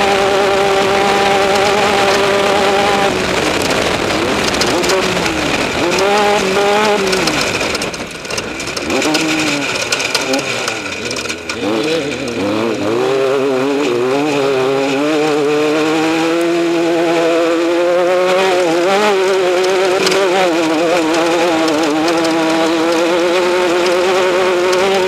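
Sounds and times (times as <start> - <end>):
engine running at high revs: 0.0 - 25.0.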